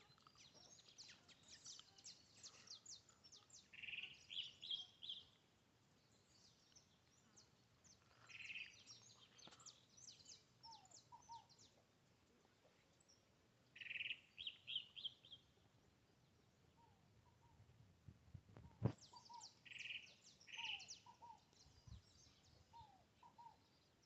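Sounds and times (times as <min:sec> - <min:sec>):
bird song phrase: 0:00.0 - 0:17.6, 0:18.7 - 0:24.0.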